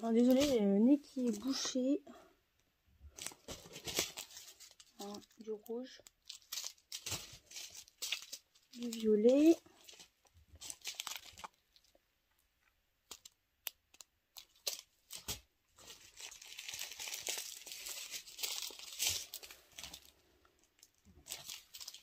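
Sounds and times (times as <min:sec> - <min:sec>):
plastic bags crinkling: 0:00.0 - 0:01.9, 0:03.1 - 0:12.0, 0:13.0 - 0:22.0.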